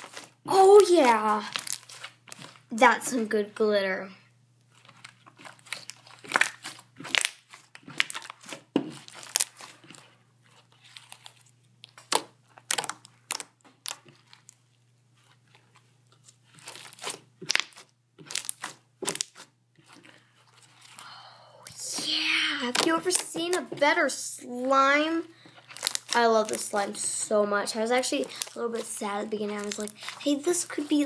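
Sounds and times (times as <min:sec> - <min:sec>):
slime popping and crackling: 0:00.0 - 0:03.0, 0:04.9 - 0:10.0, 0:10.8 - 0:14.6, 0:16.2 - 0:21.0, 0:21.6 - 0:31.0.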